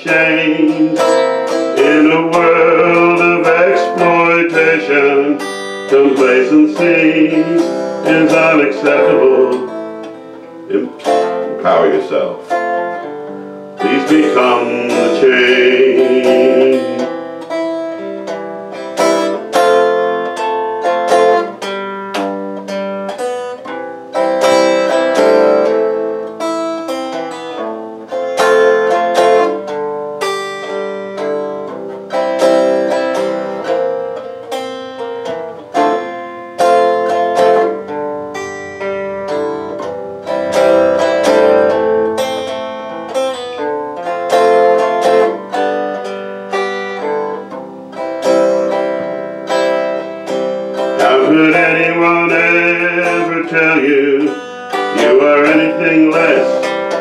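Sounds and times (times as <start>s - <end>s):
acoustic guitar picked and strummed: 0.0s - 57.0s.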